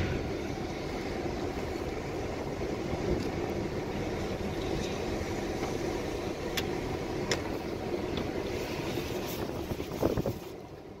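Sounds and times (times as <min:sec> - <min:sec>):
tyre hiss on wet road: 0:00.0 - 0:10.9
freight train rumbling: 0:00.0 - 0:11.0.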